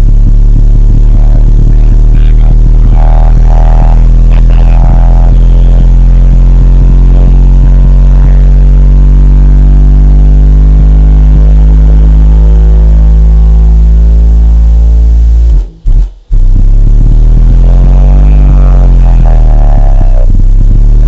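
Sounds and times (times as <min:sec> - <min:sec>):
deep bass test tone: 0:00.0 - 0:21.0.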